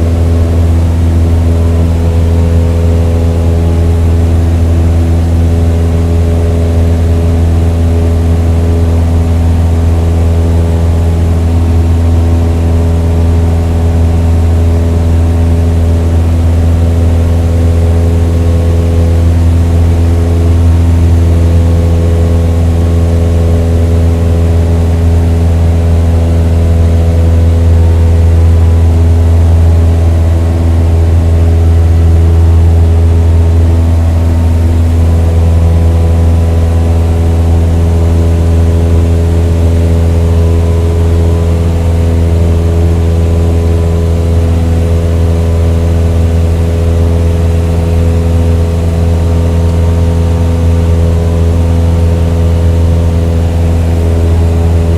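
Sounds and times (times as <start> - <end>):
engine humming: 0.0 - 54.9.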